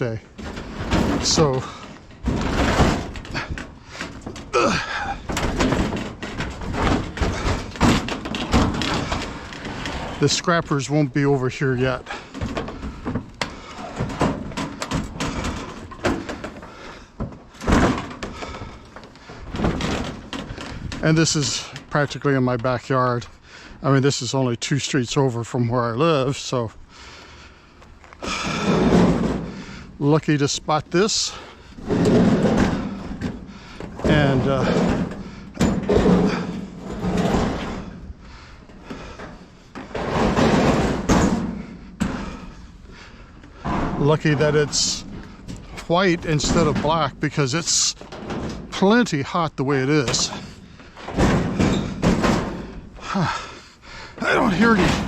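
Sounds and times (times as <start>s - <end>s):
metal dryer cabinet knocking and scraping: 0.0s - 10.8s, 11.8s - 22.1s, 28.3s - 30.1s, 30.8s - 53.6s, 54.2s - 55.0s.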